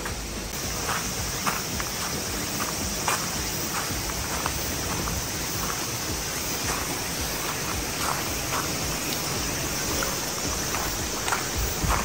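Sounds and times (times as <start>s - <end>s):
footsteps crunching on gravel: 0.0s - 12.0s
river water flowing: 0.0s - 12.0s.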